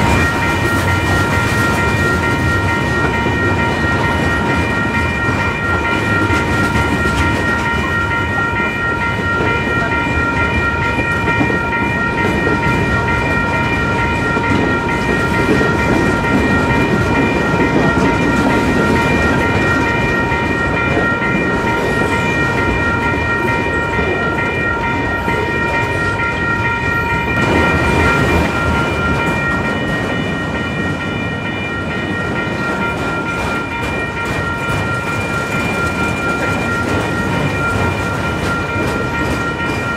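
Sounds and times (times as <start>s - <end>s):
train rumbling and clattering: 0.0s - 39.9s.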